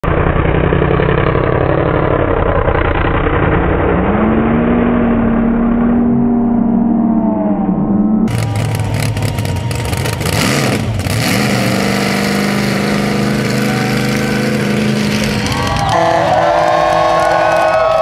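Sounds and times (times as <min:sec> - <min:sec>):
harsh engine with clatter: 0:00.0 - 0:18.0
truck engine running hard: 0:00.0 - 0:18.0.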